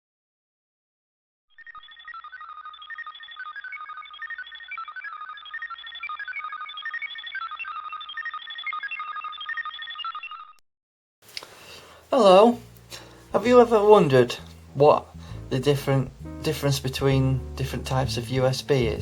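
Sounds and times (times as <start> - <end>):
tinny electronic melody: 1.6 - 10.6, 12.1 - 19.0.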